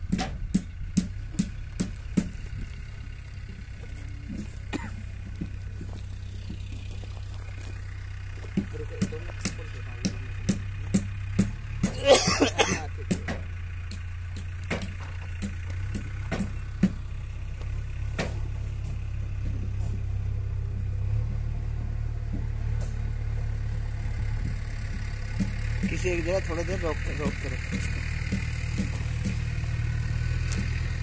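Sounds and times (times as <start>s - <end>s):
low engine hum: 0.0s - 31.0s.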